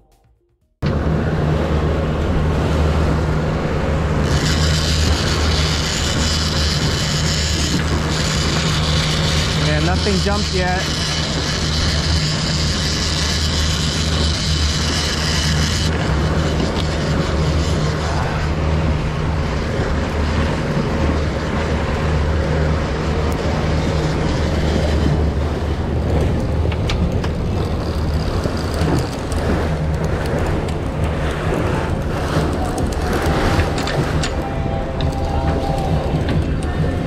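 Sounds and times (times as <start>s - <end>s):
boat engine humming: 0.0s - 37.0s
water rushing: 0.9s - 37.0s.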